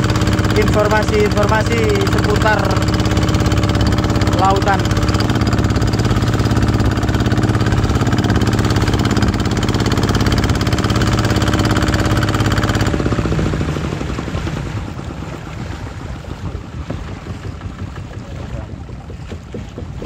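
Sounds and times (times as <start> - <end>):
diesel boat engine running: 0.0 - 20.0
water noise: 0.0 - 20.0
wind: 0.0 - 20.0.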